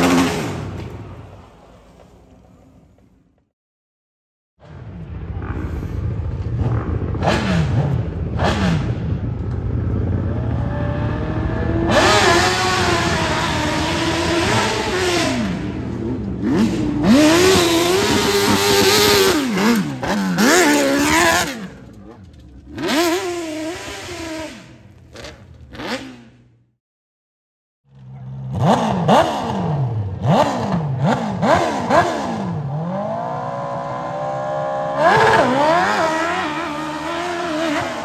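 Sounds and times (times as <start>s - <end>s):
motorcycle engine revving: 0.0s - 1.0s, 4.7s - 26.8s, 27.9s - 38.0s.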